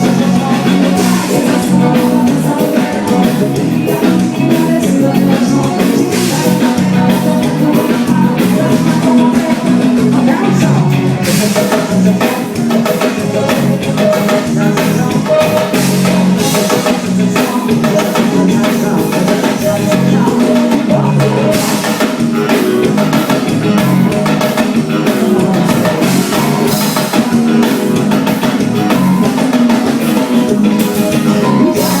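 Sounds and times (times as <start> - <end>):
band playing: 0.0 - 32.0
drum kit: 0.0 - 32.0
person singing: 0.0 - 32.0.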